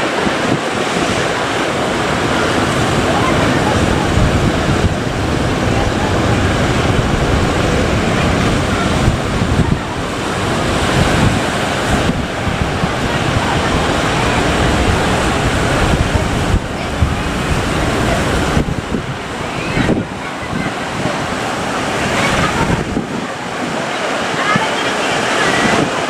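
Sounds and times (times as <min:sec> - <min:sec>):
ocean waves breaking: 0:00.0 - 0:26.0
wind buffeting microphone: 0:00.0 - 0:26.0.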